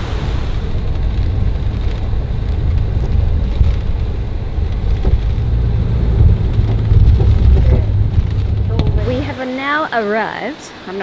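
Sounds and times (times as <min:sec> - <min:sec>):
bus engine and road rumble: 0:00.0 - 0:10.8.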